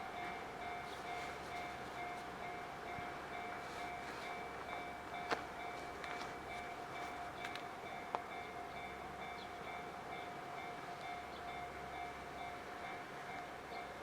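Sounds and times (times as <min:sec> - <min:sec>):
level crossing warning bell ringing: 0:00.0 - 0:14.0.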